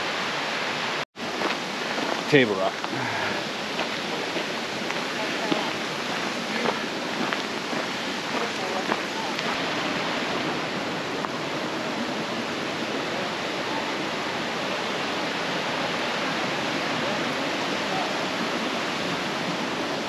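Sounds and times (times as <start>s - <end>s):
mountain brook rushing over rocks: 1.2s - 20.0s.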